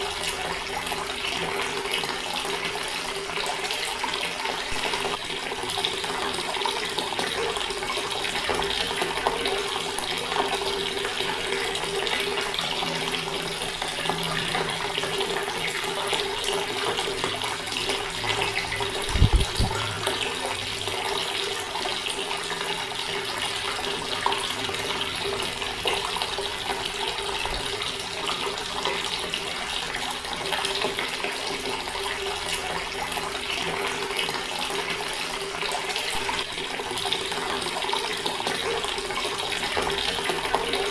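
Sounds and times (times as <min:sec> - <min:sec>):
water running from a tap: 0:00.0 - 0:40.9.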